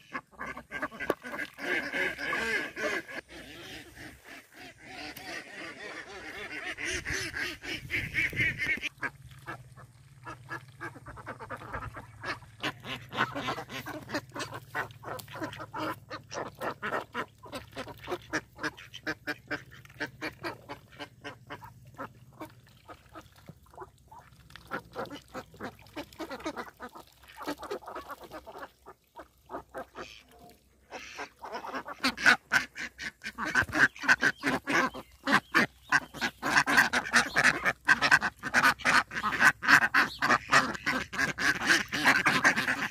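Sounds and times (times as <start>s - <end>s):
ducks quacking: 0.0s - 42.9s.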